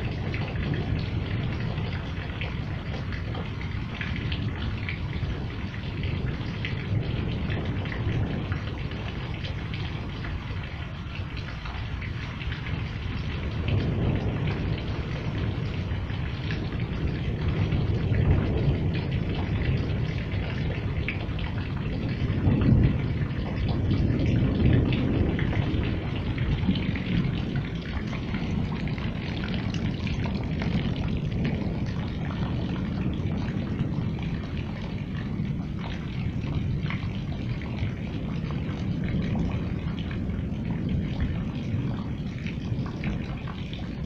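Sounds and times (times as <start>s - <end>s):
low thunder rumbling: 0.0s - 44.0s
steady rain falling: 0.0s - 44.0s.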